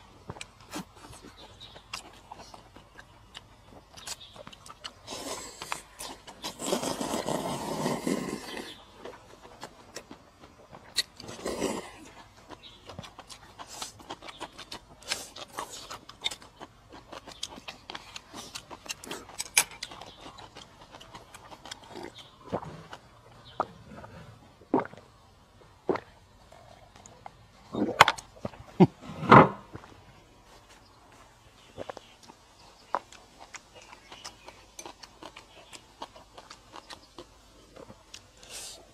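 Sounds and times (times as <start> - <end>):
person chewing food: 0.2 - 25.2, 25.8 - 29.0, 30.7 - 38.9.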